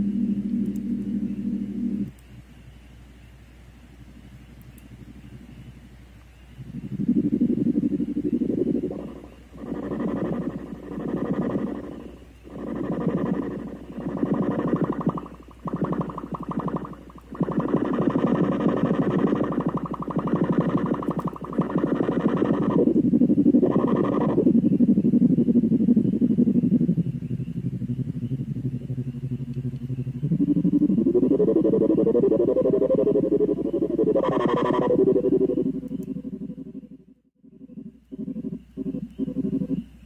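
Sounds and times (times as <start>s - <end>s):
synthesizer drone: 0.0s - 2.5s, 3.8s - 40.0s.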